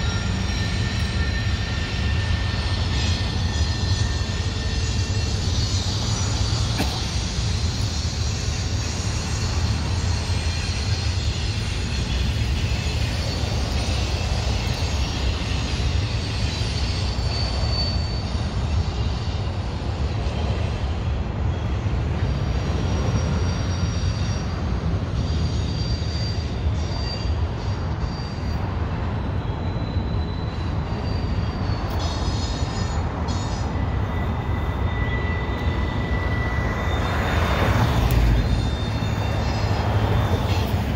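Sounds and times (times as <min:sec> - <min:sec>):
high wheel squeals: 0:00.0 - 0:40.9
train wheels rumbling on rail: 0:00.0 - 0:40.9.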